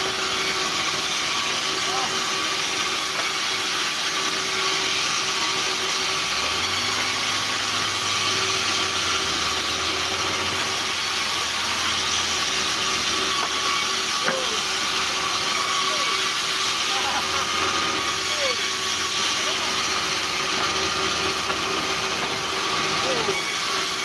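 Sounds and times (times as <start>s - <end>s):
band saw cutting log: 0.0s - 24.0s.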